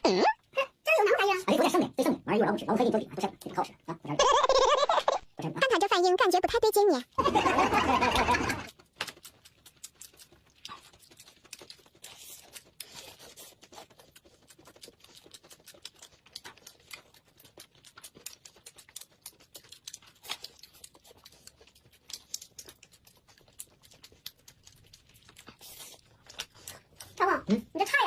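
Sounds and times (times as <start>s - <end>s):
chewing sounds: 1.4s - 4.2s, 5.4s - 28.0s.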